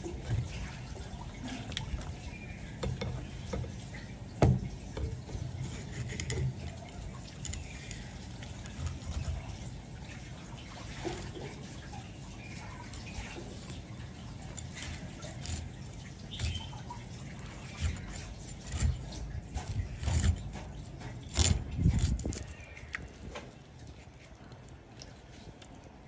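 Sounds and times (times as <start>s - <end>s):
water sloshing and dripping: 0.0s - 26.0s.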